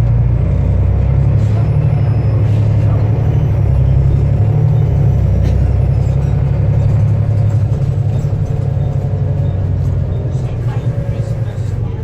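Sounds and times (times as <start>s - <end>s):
diesel bus engine rumbling: 0.0s - 12.0s.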